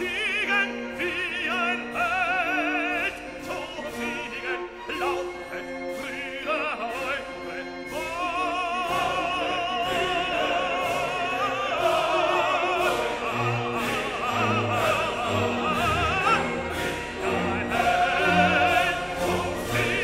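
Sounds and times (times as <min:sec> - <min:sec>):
opera singer with vibrato: 0:00.0 - 0:20.0
sustained orchestral notes: 0:00.0 - 0:20.0.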